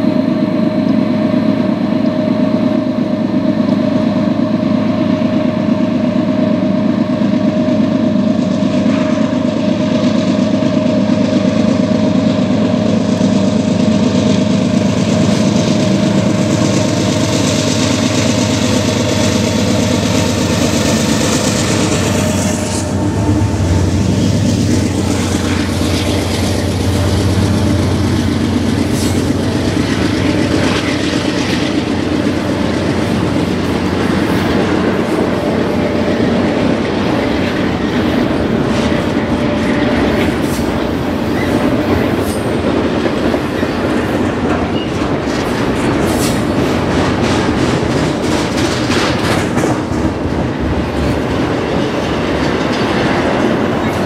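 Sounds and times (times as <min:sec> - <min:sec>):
diesel locomotive engine drone: 0:00.0 - 0:54.0
freight cars rumbling on rails: 0:00.0 - 0:54.0.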